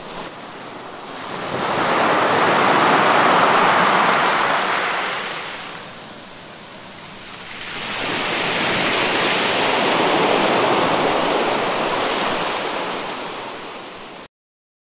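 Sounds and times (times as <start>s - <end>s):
ocean surf washing onto beach: 0.0s - 14.3s.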